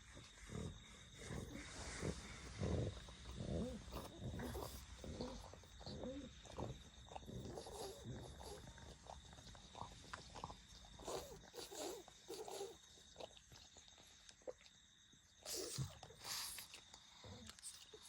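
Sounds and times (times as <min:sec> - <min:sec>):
dog snoring softly: 0:00.0 - 0:14.2, 0:15.4 - 0:18.0.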